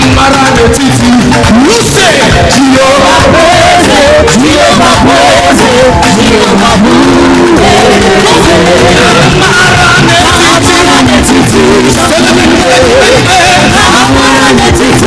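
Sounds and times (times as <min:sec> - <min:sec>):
gospel singing with band: 0:00.0 - 0:15.0.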